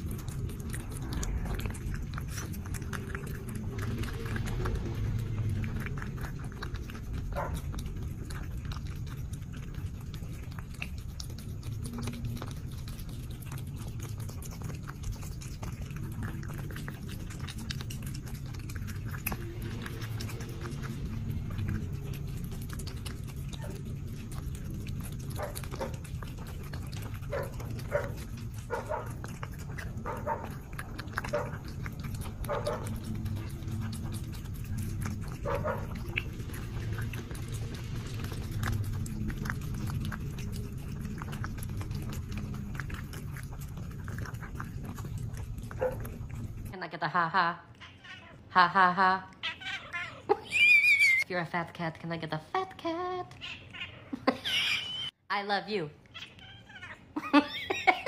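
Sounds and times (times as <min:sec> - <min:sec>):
cat purring: 0:00.0 - 0:46.8
cat chewing and lip-smacking: 0:00.0 - 0:58.0.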